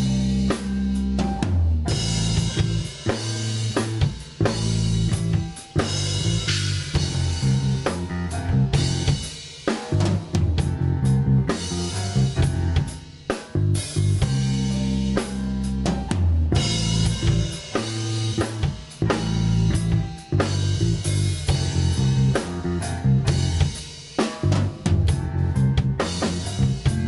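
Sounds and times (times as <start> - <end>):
busy drum kit: 0.0 - 27.0
rock band playing live: 0.0 - 27.0.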